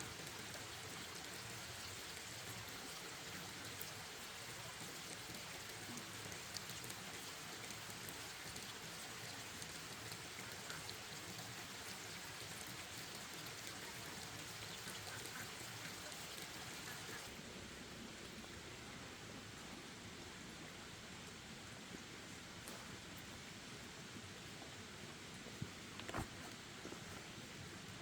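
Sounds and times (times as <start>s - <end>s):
light rain pattering: 0.0s - 28.0s.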